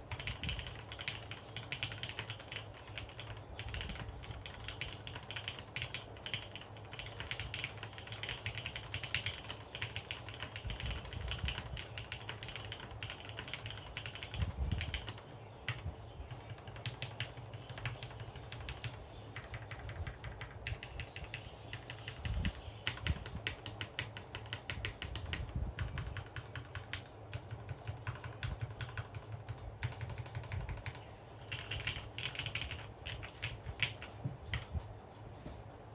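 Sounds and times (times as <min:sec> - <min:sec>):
mechanical keyboard typing: 0:00.0 - 0:34.7.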